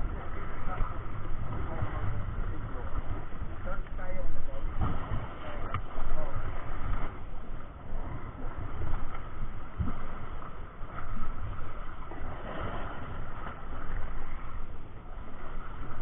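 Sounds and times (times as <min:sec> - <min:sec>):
wind and water hiss: 0:00.0 - 0:16.0
wind buffeting microphone: 0:00.0 - 0:16.0.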